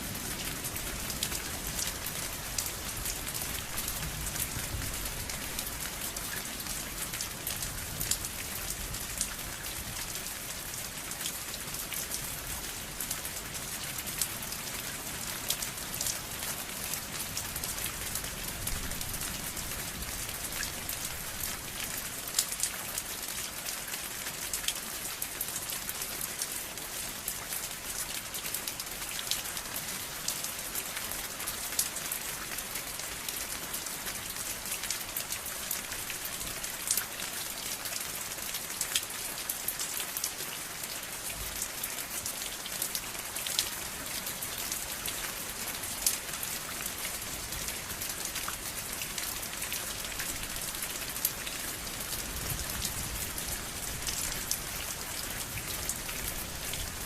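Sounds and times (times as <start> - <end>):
raindrops ticking on a surface: 0.0 - 57.0
steady rain falling: 0.0 - 57.0.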